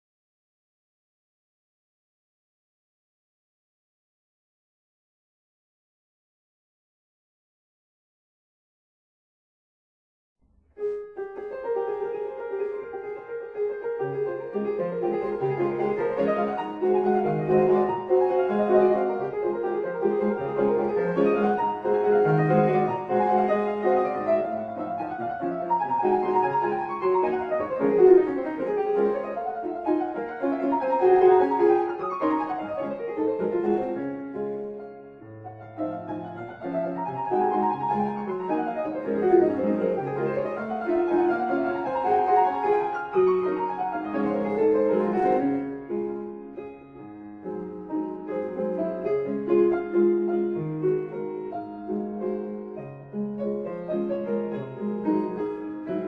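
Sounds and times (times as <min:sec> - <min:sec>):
classical piano music: 0:10.7 - 0:56.0.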